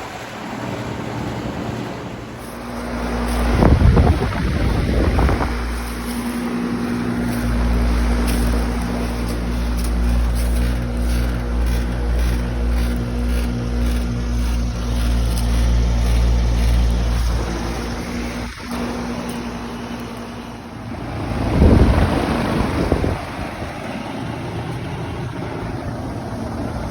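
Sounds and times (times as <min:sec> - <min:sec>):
rushing air: 0:00.0 - 0:24.1
heat pump unit humming: 0:00.0 - 0:26.9.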